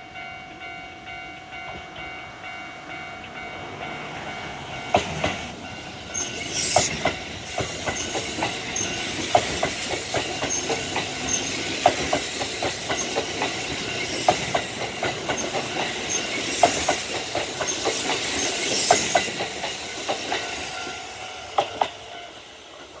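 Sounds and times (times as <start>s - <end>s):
train wheels clacking over rails: 3.2s - 23.0s.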